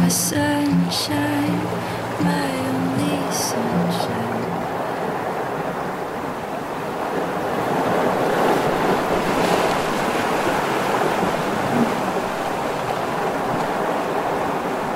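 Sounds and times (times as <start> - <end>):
breaking waves: 0.0 - 14.9.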